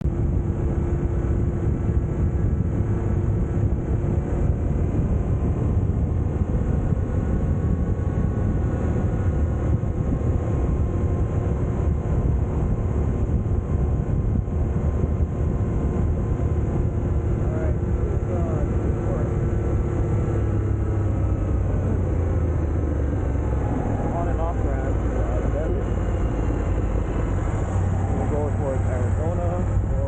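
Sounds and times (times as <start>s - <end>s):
vehicle engine running: 0.0s - 30.0s
wind rumble on microphone: 0.0s - 30.0s.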